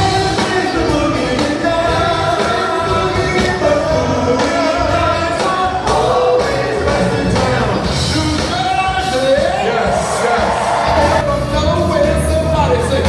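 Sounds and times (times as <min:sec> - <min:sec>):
person singing: 0:00.0 - 0:13.0
soul band playing: 0:00.0 - 0:13.0.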